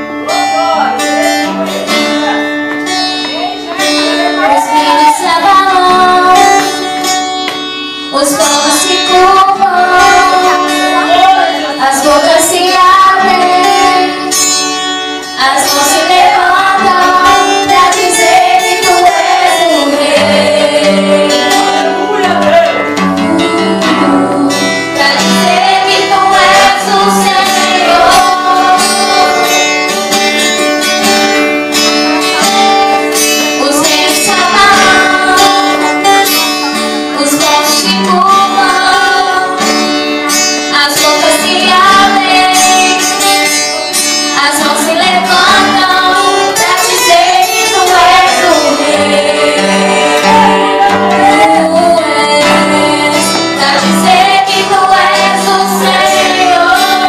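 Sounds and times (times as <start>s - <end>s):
live band with guitar: 0.0s - 57.0s
woman singing gospel song: 4.4s - 7.1s, 8.0s - 14.6s, 15.3s - 29.6s, 33.5s - 43.3s, 44.3s - 57.0s.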